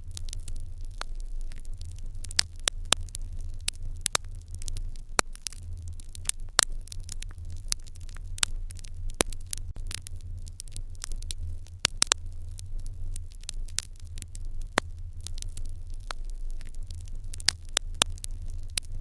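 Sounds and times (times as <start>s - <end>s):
hearth fire crackling and popping: 0.0s - 19.0s.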